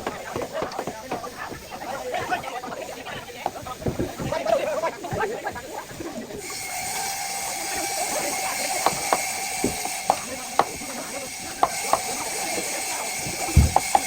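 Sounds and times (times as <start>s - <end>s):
mechanical whirring hiss: 0.0s - 14.0s.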